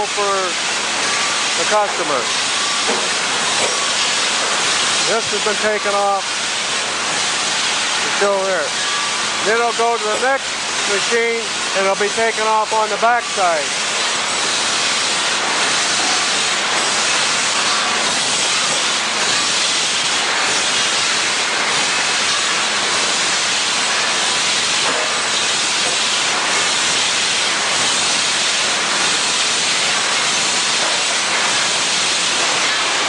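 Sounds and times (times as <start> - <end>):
belt grinder grinding steel: 0.0 - 33.0.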